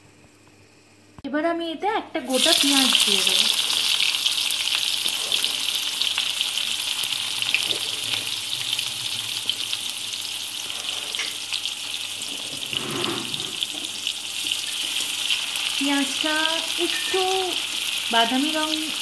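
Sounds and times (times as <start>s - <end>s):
onion sizzling in hot oil: 2.3s - 19.0s.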